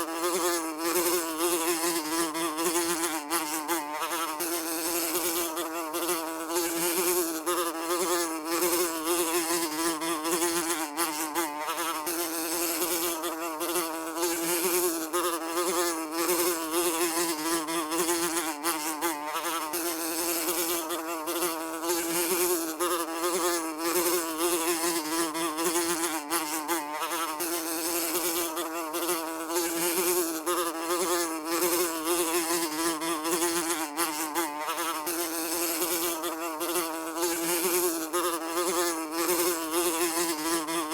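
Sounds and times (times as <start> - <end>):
housefly buzzing: 0.0 - 40.9.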